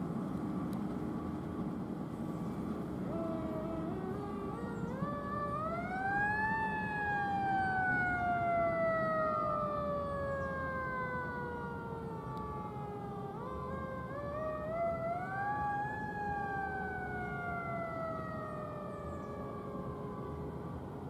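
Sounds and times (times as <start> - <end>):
traffic and engine noise: 0.0 - 21.0
emergency siren wailing: 2.6 - 21.0.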